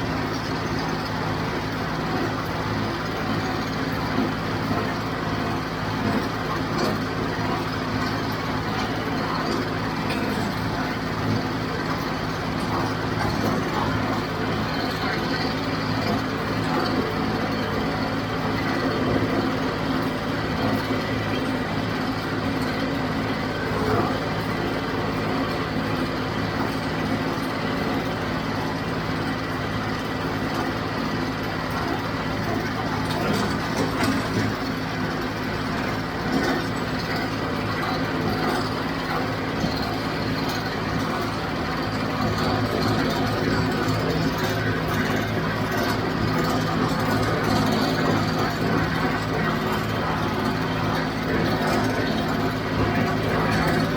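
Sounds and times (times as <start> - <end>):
baler mechanical clatter: 0.0 - 53.9
tractor diesel engine running: 0.0 - 53.9.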